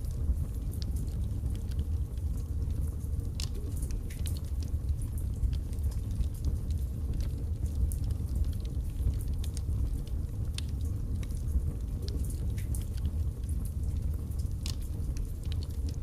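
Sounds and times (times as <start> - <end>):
burning wood crackling and popping: 0.0 - 16.0
fire rumbling in fireplace: 0.0 - 16.0.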